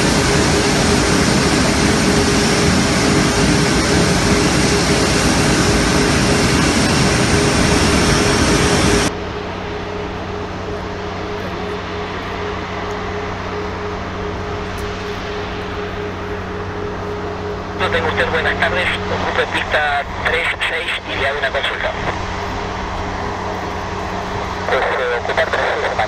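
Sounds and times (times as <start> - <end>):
jet airliner rush: 0.0 - 26.0
jet engines humming: 0.0 - 26.0.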